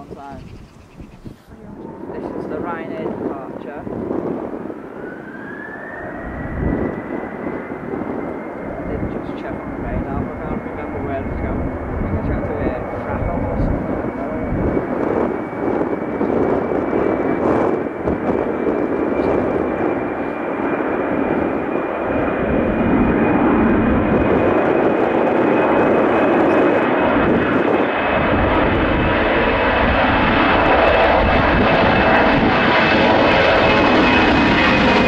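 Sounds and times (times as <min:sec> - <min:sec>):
jet engines at takeoff thrust: 0:00.0 - 0:35.0
wind buffeting microphone: 0:00.0 - 0:35.0.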